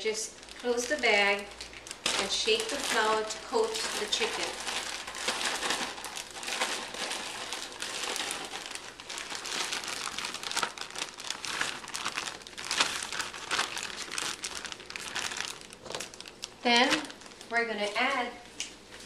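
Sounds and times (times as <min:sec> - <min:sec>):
plastic bag crinkling: 0:00.2 - 0:18.4.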